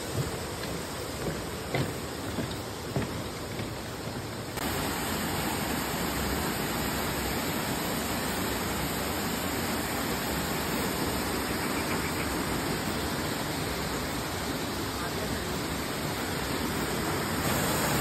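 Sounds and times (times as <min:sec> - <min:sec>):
waterfall rushing over rock: 0:00.0 - 0:18.0.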